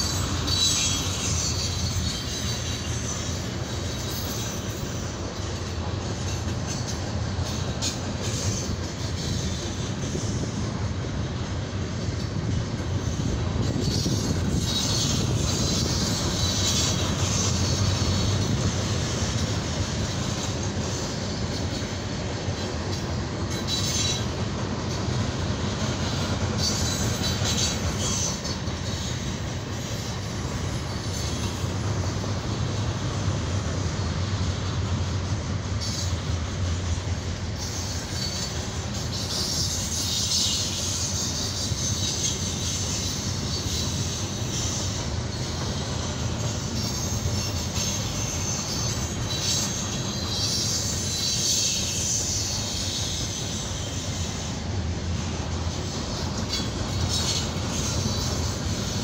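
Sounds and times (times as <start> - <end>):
wheels squealing: 0.0 - 10.9, 11.9 - 59.0
train wheels rumbling on rail: 0.0 - 59.0.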